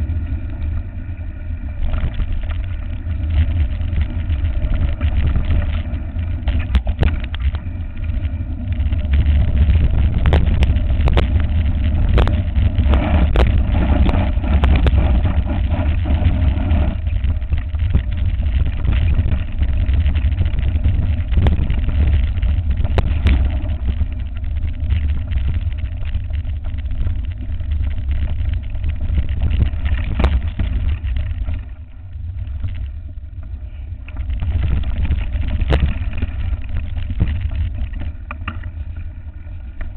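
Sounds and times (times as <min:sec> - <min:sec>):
wind rumble on microphone: 0:00.0 - 0:39.9
bike rattling over bumps: 0:01.7 - 0:39.9.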